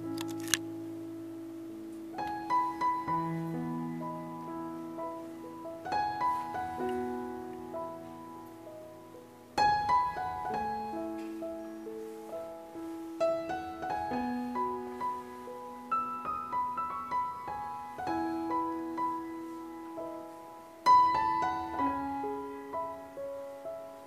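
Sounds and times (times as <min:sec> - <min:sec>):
slow piano melody: 0:00.0 - 0:24.0.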